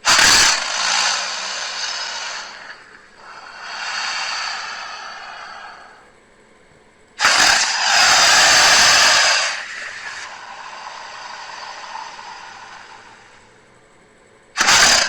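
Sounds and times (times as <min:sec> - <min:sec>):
crocodile hissing call: 0:00.0 - 0:06.1, 0:07.2 - 0:13.7, 0:14.6 - 0:15.0.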